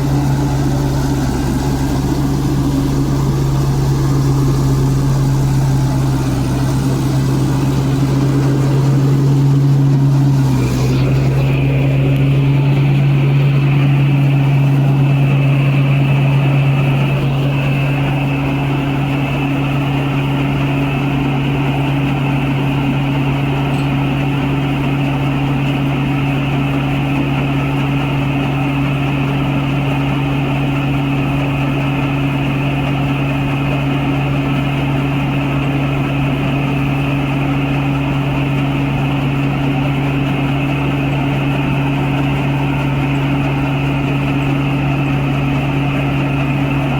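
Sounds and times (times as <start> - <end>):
combine harvester engine droning: 0.0 - 46.9.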